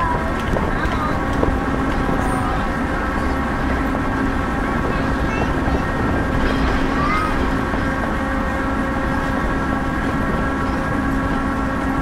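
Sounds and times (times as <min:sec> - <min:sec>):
train rumble inside passenger car: 0:00.0 - 0:12.0.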